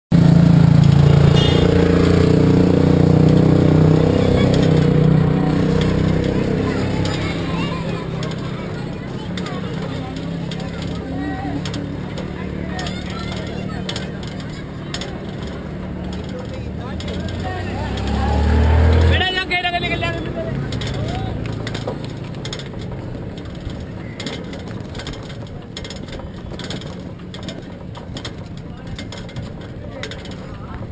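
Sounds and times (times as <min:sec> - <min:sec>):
cycle rickshaw rattling and clicking: 0:00.1 - 0:30.9
engine running steadily: 0:00.1 - 0:30.9
street traffic: 0:00.1 - 0:30.9.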